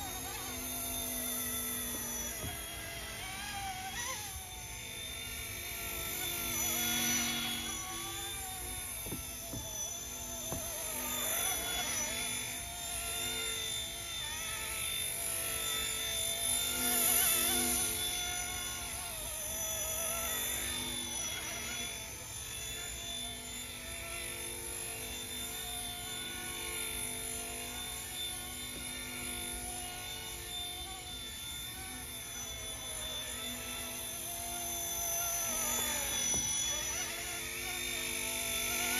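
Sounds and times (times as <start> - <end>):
model helicopter rotor whine: 0.0 - 38.9.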